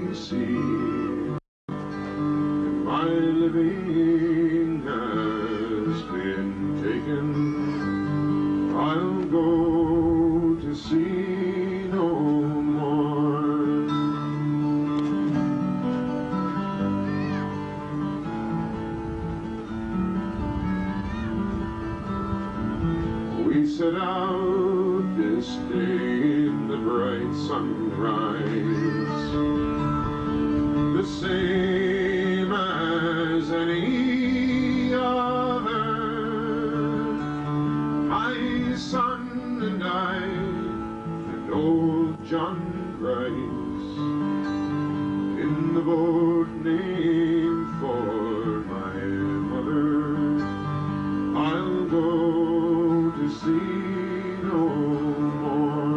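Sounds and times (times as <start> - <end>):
man singing a slow ballad: 0.0 - 1.4, 2.6 - 17.5, 23.3 - 55.9
acoustic guitar: 0.0 - 55.9.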